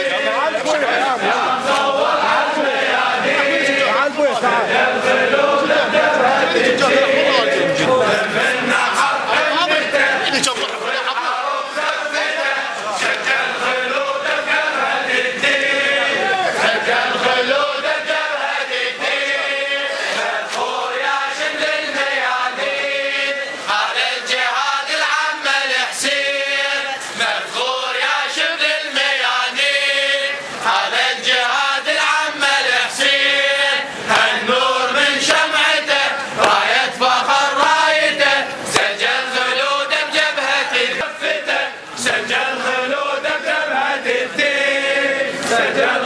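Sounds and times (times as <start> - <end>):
men chanting together: 0.0 - 46.0.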